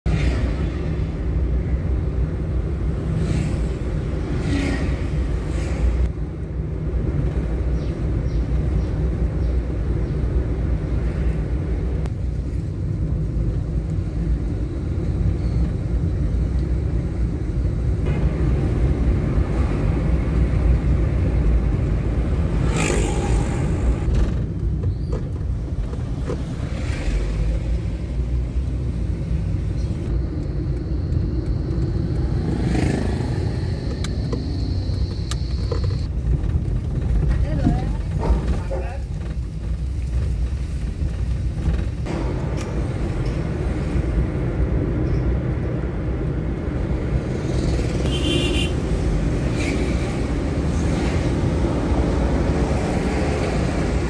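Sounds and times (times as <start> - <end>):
car engine and tyre rumble: 0.0 - 54.0
passing traffic: 0.0 - 54.0.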